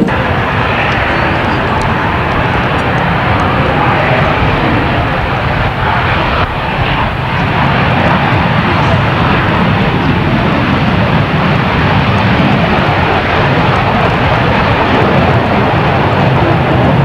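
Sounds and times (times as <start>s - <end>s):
loud jet noise at takeoff: 0.0s - 17.0s.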